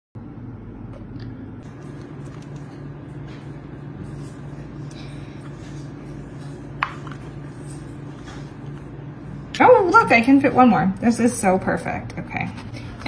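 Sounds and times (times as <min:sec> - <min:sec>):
steady low hum: 0:00.2 - 0:13.0.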